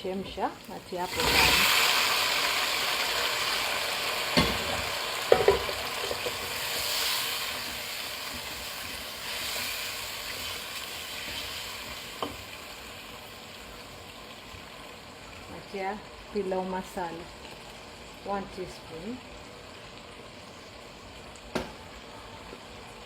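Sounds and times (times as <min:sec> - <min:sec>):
meat sizzling in hot oil: 0:00.0 - 0:23.0.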